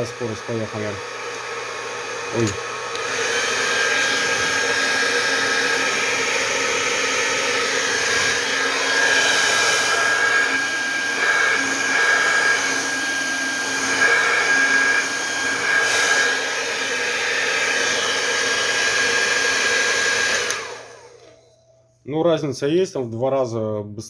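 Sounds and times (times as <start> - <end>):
hair dryer running: 0.0 - 21.4.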